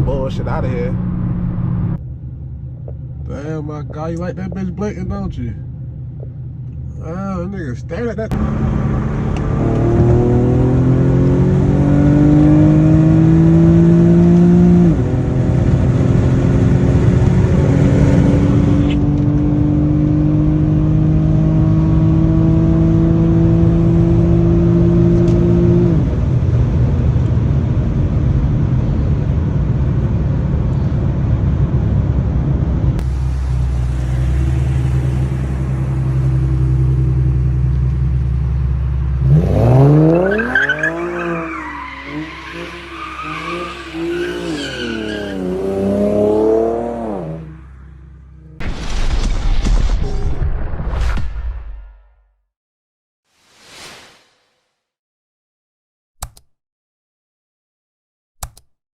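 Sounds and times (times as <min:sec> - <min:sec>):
car engine under full throttle: 0:00.0 - 0:48.6.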